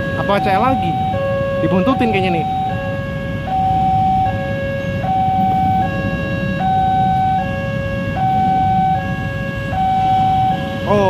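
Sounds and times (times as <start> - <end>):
idling traffic hum: 0.0 - 11.0
two-tone level crossing alarm: 0.0 - 11.0.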